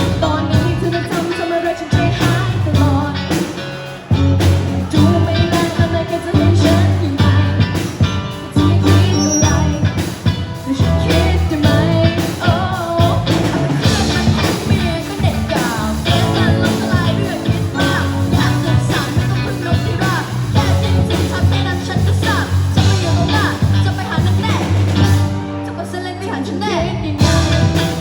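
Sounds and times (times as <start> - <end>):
pop-rock song with singing: 0.0 - 28.0.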